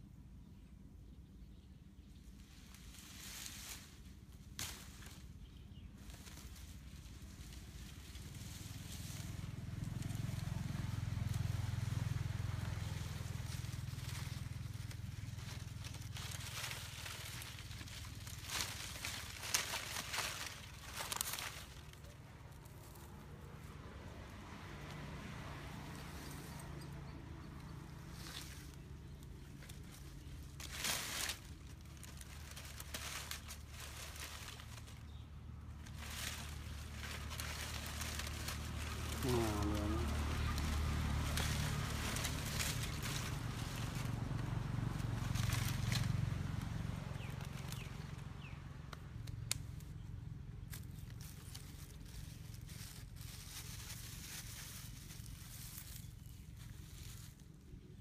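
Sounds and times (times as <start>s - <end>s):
low engine rumble: 0.0s - 58.0s
dry palm fronds rustling: 1.9s - 58.0s.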